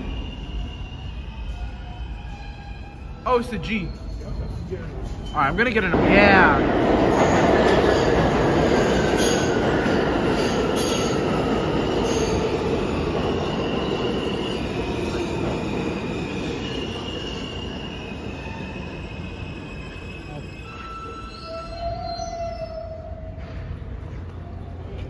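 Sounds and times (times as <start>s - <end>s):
high wheel squealing: 0.0s - 5.8s, 7.9s - 23.6s
subway train rumbling past: 0.0s - 25.0s.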